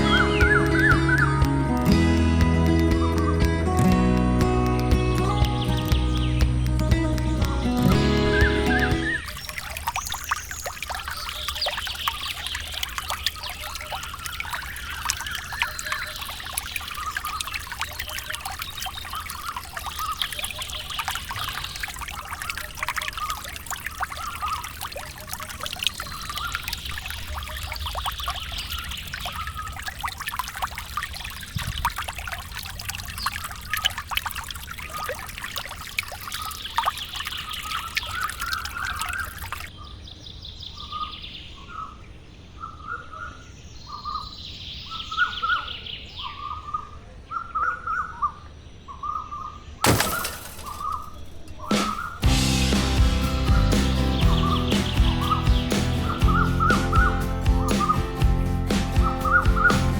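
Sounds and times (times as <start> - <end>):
birds chirping: 0.0 - 31.9, 34.9 - 59.9
water trickling and splashing: 0.0 - 42.3, 49.8 - 59.9.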